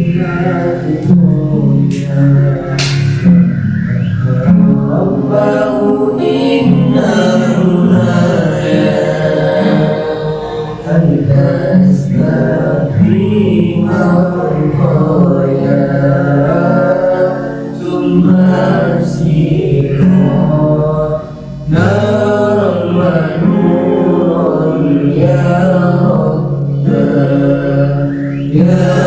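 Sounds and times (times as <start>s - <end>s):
low accompaniment: 0.0s - 29.0s
person singing devotional song: 4.3s - 29.0s.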